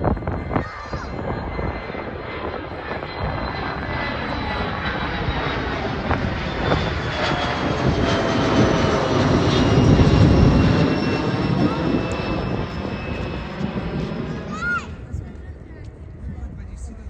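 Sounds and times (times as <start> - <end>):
airliner engines whining and rushing: 0.0 - 17.0.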